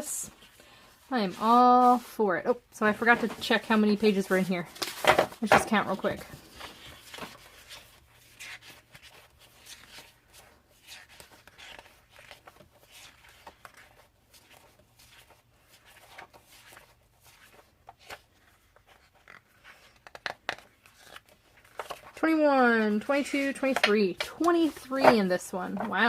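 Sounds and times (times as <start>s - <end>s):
paper sheets rustling and flicking: 2.9s - 26.0s.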